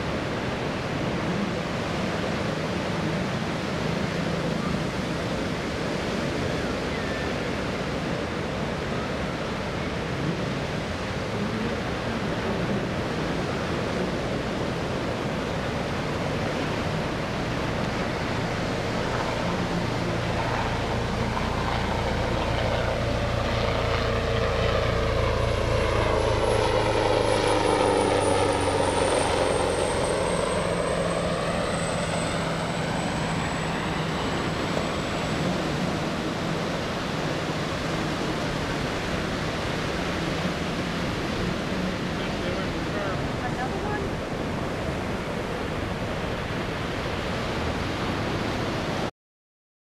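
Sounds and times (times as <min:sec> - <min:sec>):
helicopter flying past: 0:00.0 - 0:49.1
surf and wind hiss: 0:00.0 - 0:49.1.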